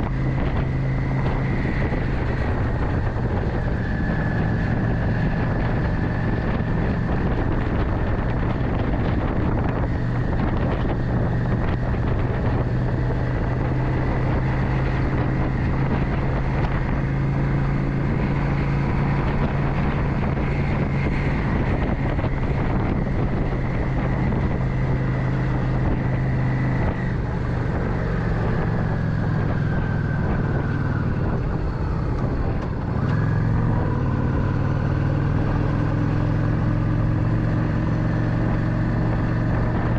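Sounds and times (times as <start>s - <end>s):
high whine: 0.0s - 39.9s
motorcycle engine running: 0.0s - 39.9s
wind buffeting microphone: 0.0s - 39.9s.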